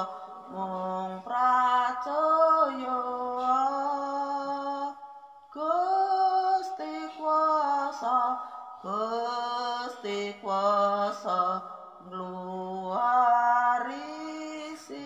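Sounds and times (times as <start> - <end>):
slow hymn singing: 0.0 - 15.0.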